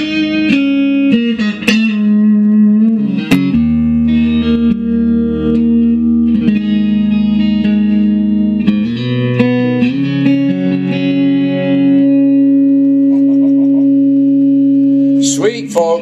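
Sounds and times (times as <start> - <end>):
electric guitar chords ringing: 0.0 - 16.0.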